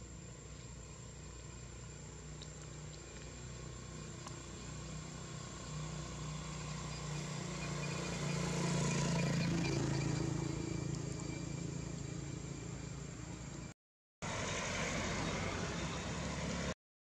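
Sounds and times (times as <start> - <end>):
motorcycle driving past: 2.1 - 16.8.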